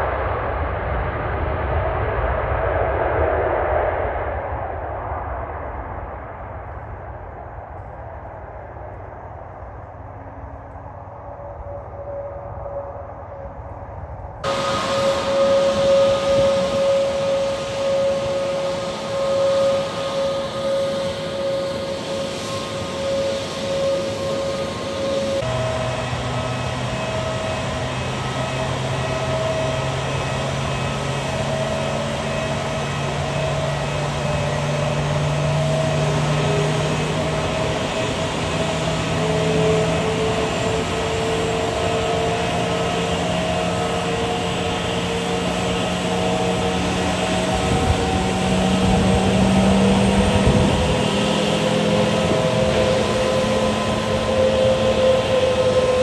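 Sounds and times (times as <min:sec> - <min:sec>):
jet engines idling whine: 0:00.0 - 0:56.0.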